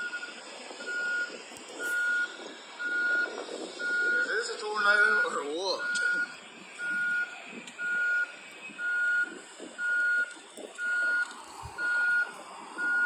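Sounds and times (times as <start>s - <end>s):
electronic backup beeper: 0.0s - 13.0s.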